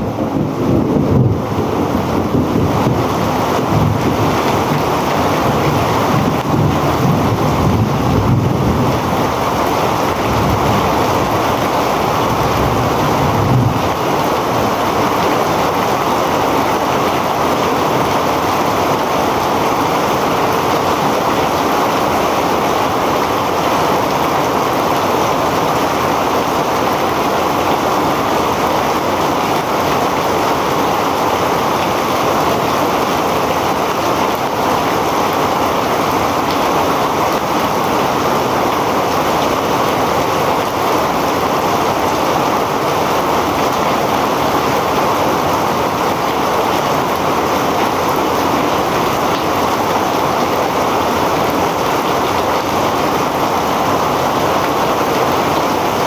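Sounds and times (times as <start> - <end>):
heavy rain falling: 0.0 - 56.0
wind rumbling on microphone: 0.0 - 56.0.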